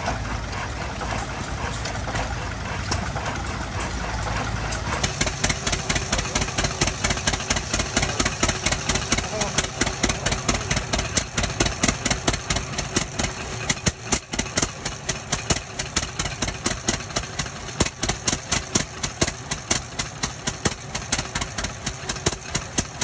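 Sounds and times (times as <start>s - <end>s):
stationary engine exhaust popping: 0.0s - 23.0s.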